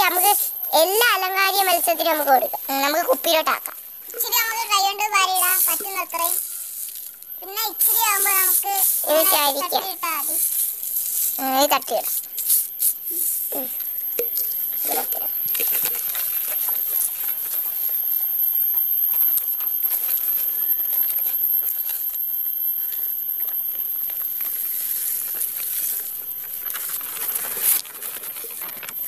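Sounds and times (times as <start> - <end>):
plastic sheet rustling and scraping: 0.0 - 18.3, 23.5 - 29.0.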